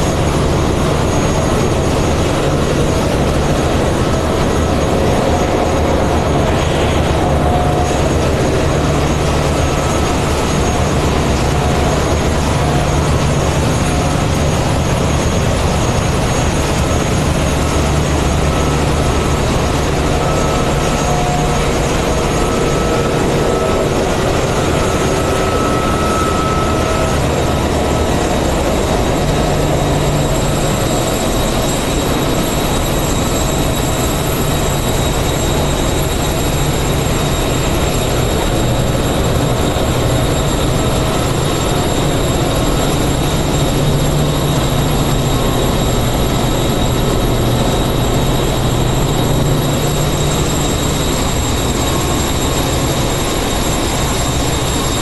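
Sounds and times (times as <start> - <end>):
low hum: 0.0 - 54.8
engine room machinery din: 0.0 - 55.0
faint high whines: 0.0 - 55.0.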